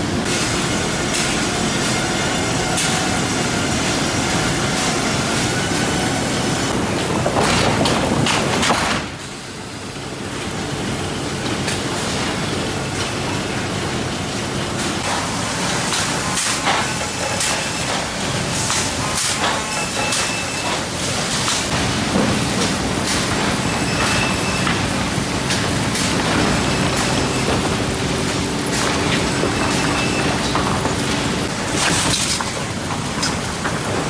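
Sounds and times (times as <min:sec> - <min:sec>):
sawmill machinery din: 0:00.0 - 0:09.2, 0:15.1 - 0:34.0.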